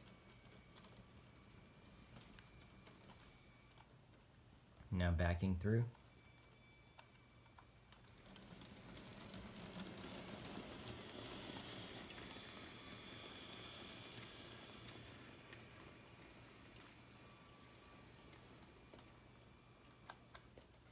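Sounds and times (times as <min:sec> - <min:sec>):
toy train rolling rattle: 0:00.0 - 0:03.9, 0:05.9 - 0:20.9
wheels clicking over rail joints: 0:00.0 - 0:03.9, 0:07.5 - 0:20.9
toy train motor whine: 0:00.0 - 0:04.2, 0:05.9 - 0:20.9.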